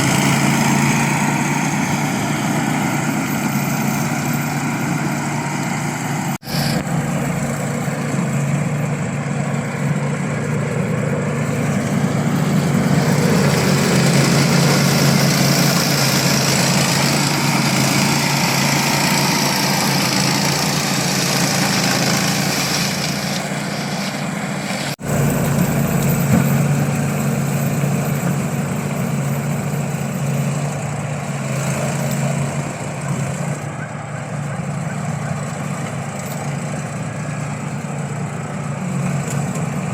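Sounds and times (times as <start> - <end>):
small lawn mower engine running: 0.0 - 39.9.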